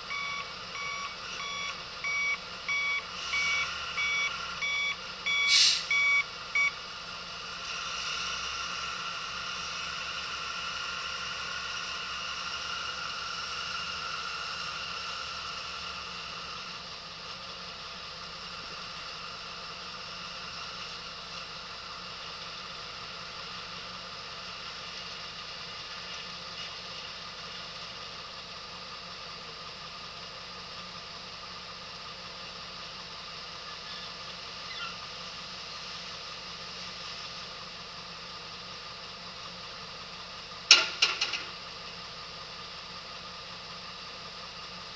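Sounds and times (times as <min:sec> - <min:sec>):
diesel engine whining: 0:00.0 - 0:44.9.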